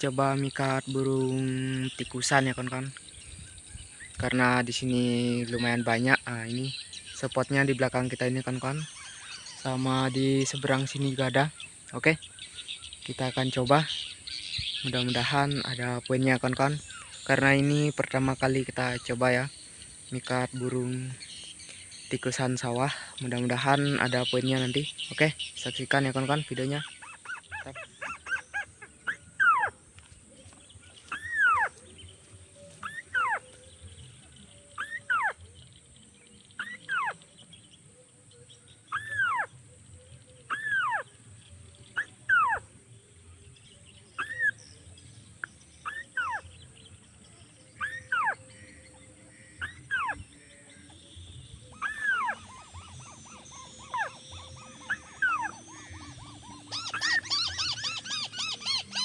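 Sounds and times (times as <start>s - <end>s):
crake calls: 0.0s - 42.9s, 43.5s - 59.0s.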